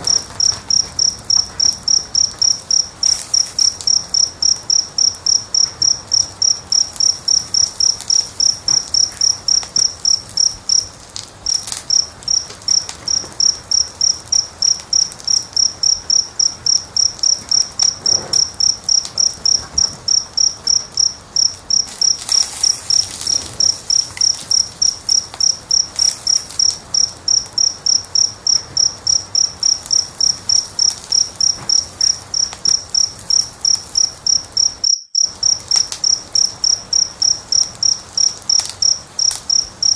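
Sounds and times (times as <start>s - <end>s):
cricket chirping: 0.0s - 39.9s
wood fire crackling and popping: 0.0s - 39.9s.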